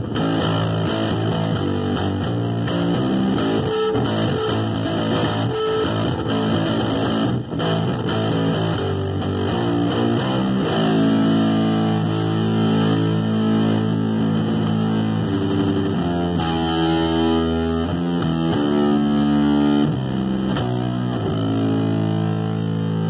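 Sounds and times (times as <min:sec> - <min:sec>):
electric bass guitar plucked: 0:00.0 - 0:23.0.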